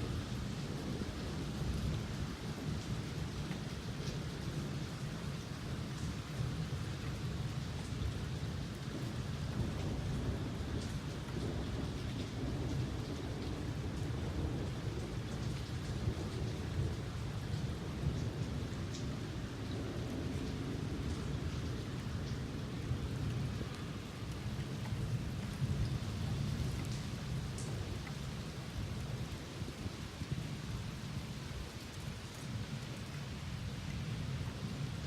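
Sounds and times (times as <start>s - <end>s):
low rumble of thunder: 0.0s - 35.0s
steady rain: 0.0s - 35.0s.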